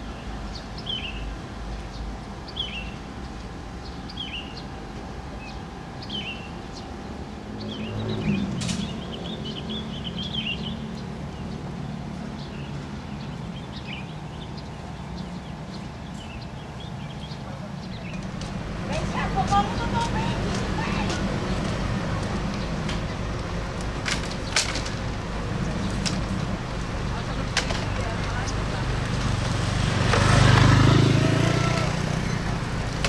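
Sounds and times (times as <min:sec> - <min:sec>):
outdoor background noise: 0:00.0 - 0:33.0
small birds chirping: 0:00.0 - 0:33.0.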